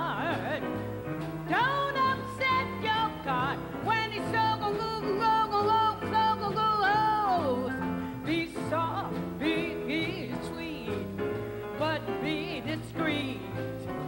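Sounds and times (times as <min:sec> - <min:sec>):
drums: 0:00.0 - 0:14.0
piano: 0:00.0 - 0:14.0
upright bass: 0:00.0 - 0:14.0
woman singing jazz: 0:00.0 - 0:14.0.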